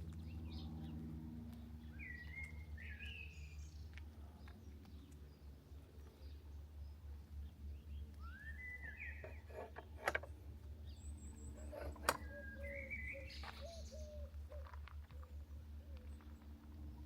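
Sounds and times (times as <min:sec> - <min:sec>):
birds calling and singing: 0:00.0 - 0:16.8.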